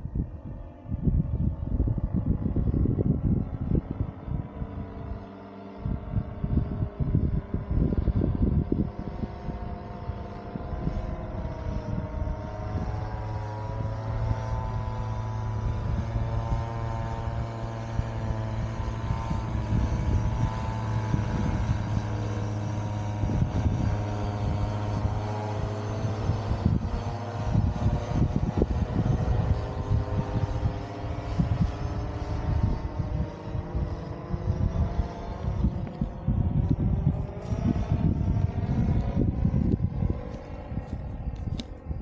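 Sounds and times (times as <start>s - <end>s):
paramotor engine and propeller: 0.0s - 42.0s
wind buffeting microphone: 0.0s - 42.0s.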